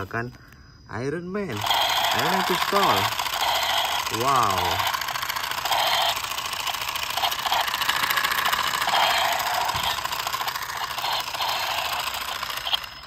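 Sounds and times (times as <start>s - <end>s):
toy gun buzzing rattle: 1.4s - 13.0s.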